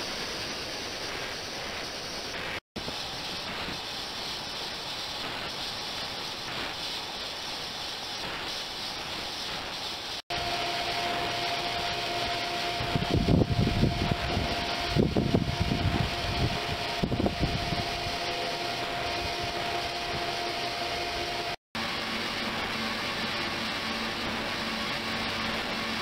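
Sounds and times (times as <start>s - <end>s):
ultrasonic cleaner hissing: 0.0s - 26.0s.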